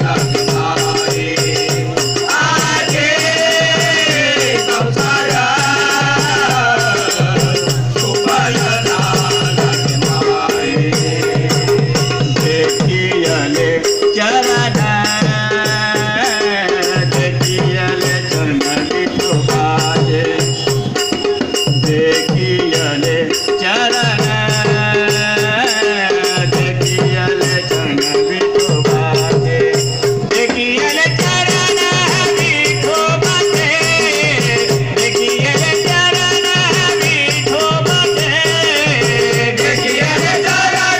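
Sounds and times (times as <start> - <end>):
devotional music: 0.0 - 40.9
jingling percussion beat: 0.0 - 40.9.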